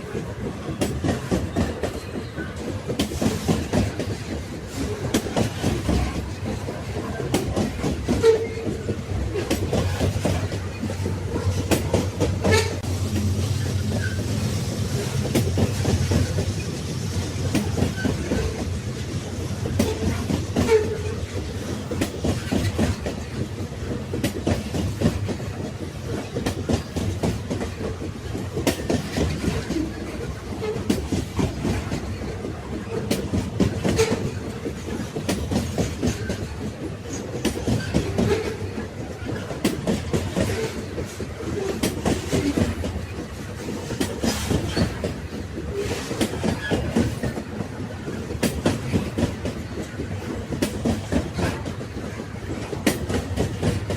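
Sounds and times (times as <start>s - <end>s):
railway wagons rumbling on track: 0.0s - 53.9s
wheels clacking over rail joints: 0.0s - 53.9s.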